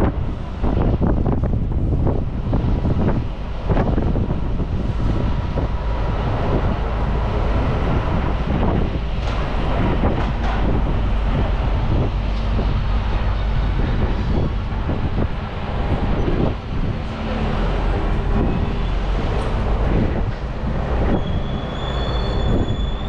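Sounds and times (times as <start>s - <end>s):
low rumble of road traffic: 0.0s - 23.0s
wind buffeting microphone: 0.0s - 23.0s.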